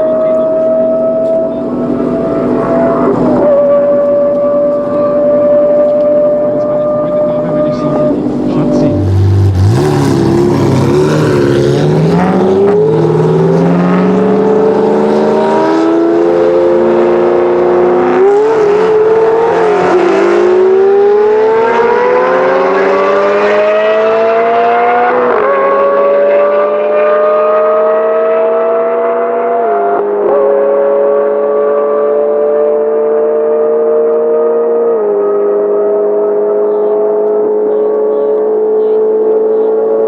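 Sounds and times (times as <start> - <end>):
sports car engine accelerating: 0.0 - 40.0.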